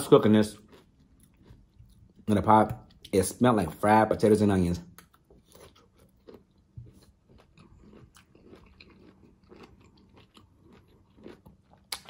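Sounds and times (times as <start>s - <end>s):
chewing crunches and mouth clicks: 0.0s - 3.2s, 5.0s - 12.0s.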